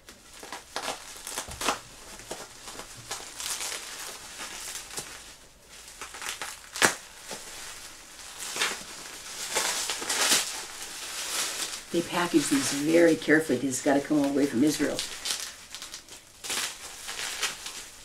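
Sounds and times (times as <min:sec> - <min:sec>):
bubble wrap crinkling: 0:00.0 - 0:18.0.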